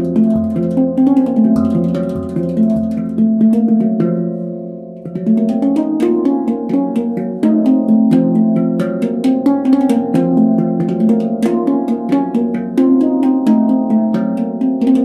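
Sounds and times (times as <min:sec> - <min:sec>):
handpan notes ringing: 0:00.0 - 0:15.0.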